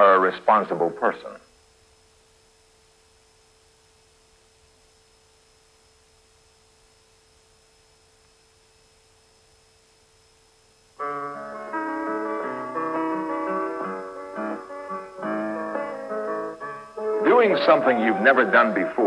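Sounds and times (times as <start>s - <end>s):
faint steady tone: 0.0s - 19.0s
tape hiss: 0.0s - 19.0s.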